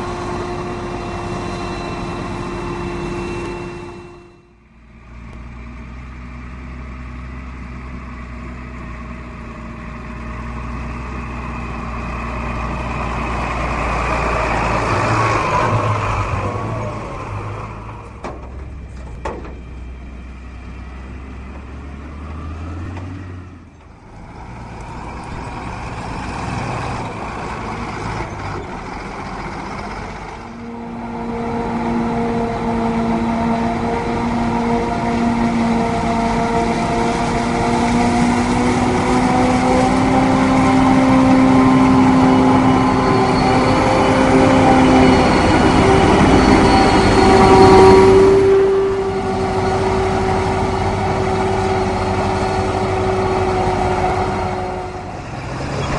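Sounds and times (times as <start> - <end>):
heavy diesel machinery droning: 0.0 - 55.9.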